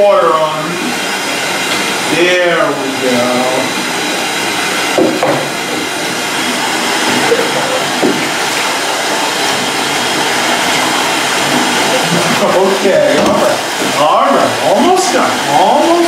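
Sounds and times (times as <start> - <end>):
faucet water splashing into tub: 0.0 - 16.0.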